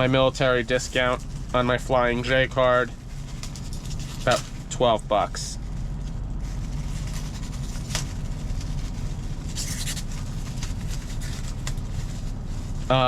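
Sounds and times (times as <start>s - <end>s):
engine idling hum: 0.0s - 13.0s
rustle of handling: 0.0s - 13.0s.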